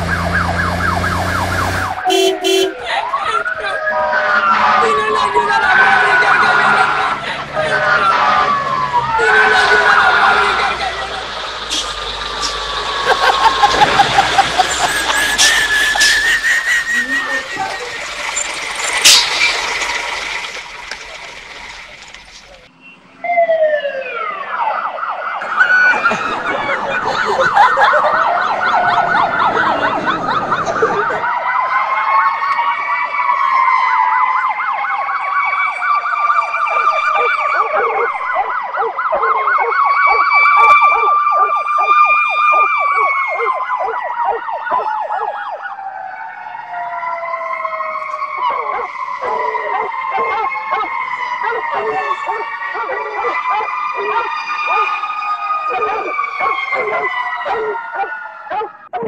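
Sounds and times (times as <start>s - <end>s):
siren wailing with warble: 0.0s - 59.0s.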